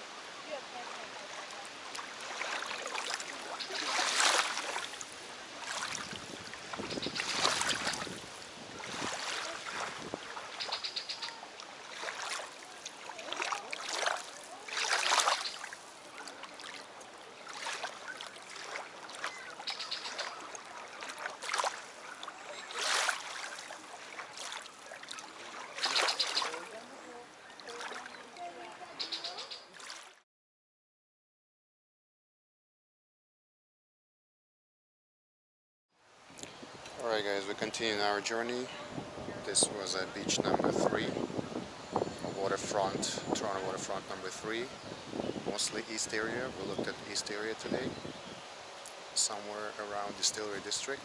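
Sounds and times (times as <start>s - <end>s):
lake waves lapping on shore: 0.0s - 30.2s, 36.0s - 51.0s.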